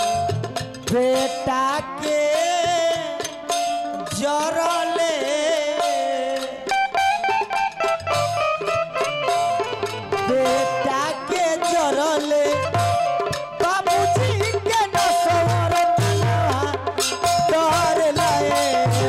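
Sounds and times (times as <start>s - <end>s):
tabla strikes: 0.0s - 19.0s.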